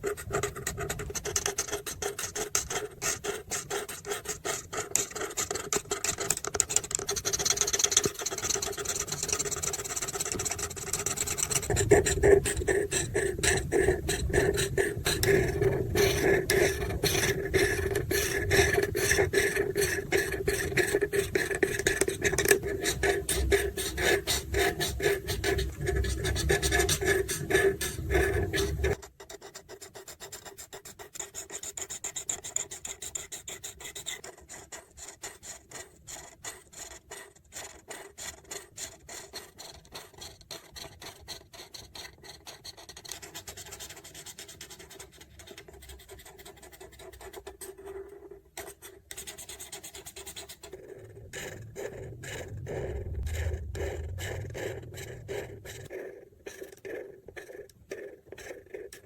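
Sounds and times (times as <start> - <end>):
marker scratching on paper: 0.0 - 52.8, 53.8 - 59.0.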